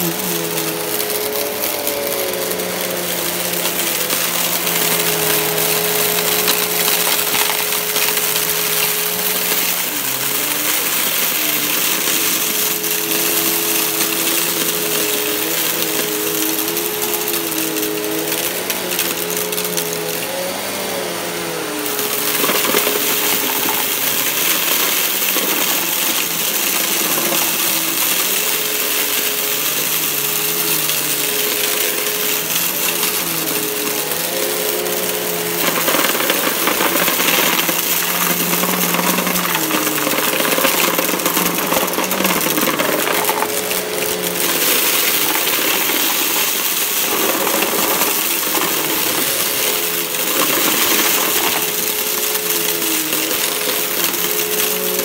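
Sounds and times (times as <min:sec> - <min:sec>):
debris rattling through vacuum: 0:00.0 - 0:55.0
vacuum cleaner motor humming: 0:00.0 - 0:55.0.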